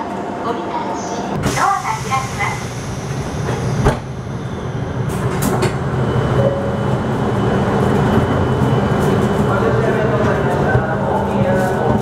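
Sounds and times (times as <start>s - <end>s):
station platform noise: 0.0s - 12.0s.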